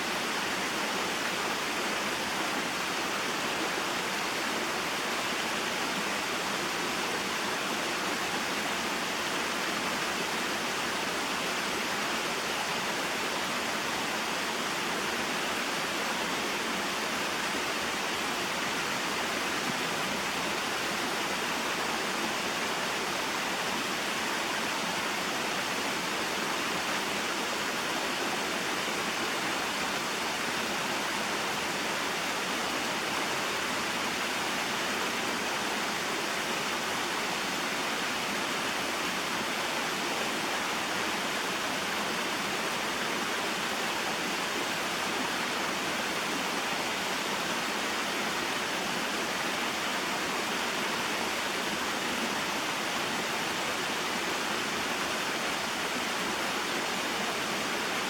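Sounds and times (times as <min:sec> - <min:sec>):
rushing water of waterfall and stream: 0:00.0 - 0:58.0.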